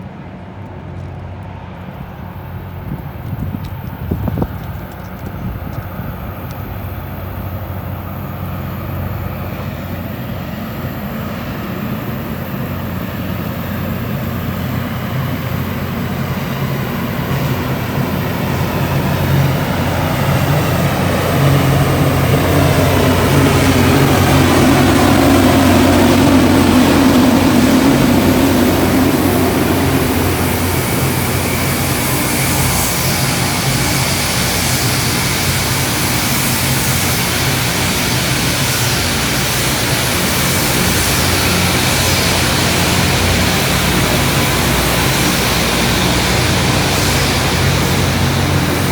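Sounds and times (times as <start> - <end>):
train engines droning: 0.0 - 48.9
hiss: 5.8 - 48.9.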